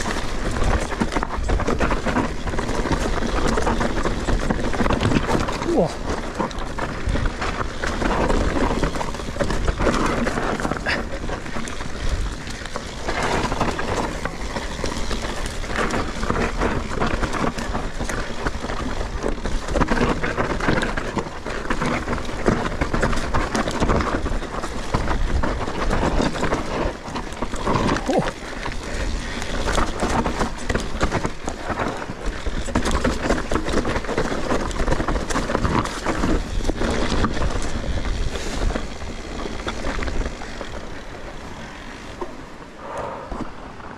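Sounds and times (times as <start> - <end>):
bike rattling and knocking: 0.0 - 42.7
bike tyres rumbling over dirt: 0.0 - 43.9.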